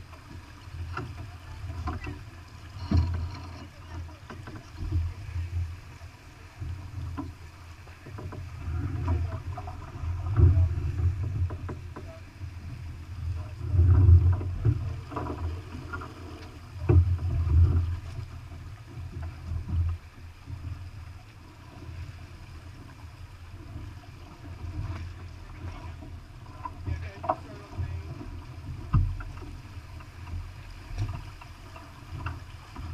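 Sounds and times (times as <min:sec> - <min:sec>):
wind rumble on microphone: 0:00.0 - 0:07.4, 0:08.0 - 0:32.9
water along hull: 0:00.0 - 0:32.9.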